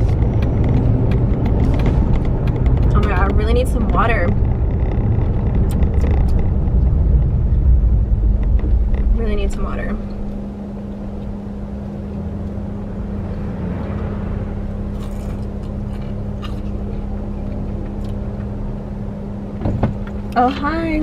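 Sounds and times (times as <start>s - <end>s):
low hum: 0.0s - 21.0s
road and engine rumble: 0.0s - 21.0s.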